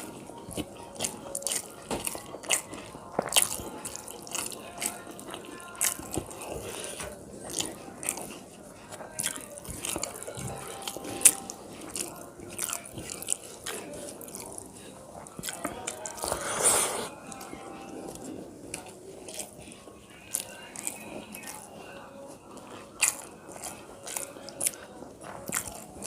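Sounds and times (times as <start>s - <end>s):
wet chewing and mouth smacking: 0.0s - 17.5s, 18.1s - 26.0s.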